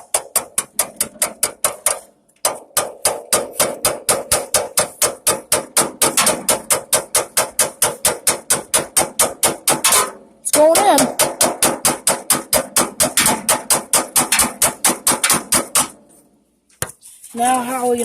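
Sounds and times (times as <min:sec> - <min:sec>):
metal-on-metal tapping: 0:00.0 - 0:16.1.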